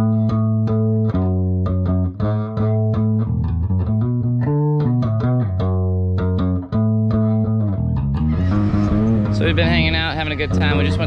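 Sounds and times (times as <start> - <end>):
plucked guitar with bass line: 0.0 - 11.0.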